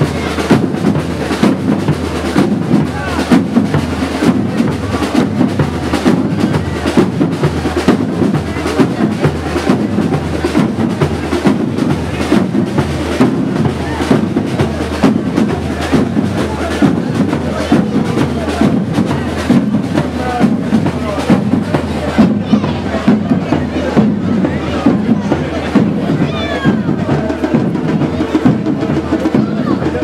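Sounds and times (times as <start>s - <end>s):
drums playing a driving beat: 0.0s - 30.0s
voices: 0.0s - 30.0s.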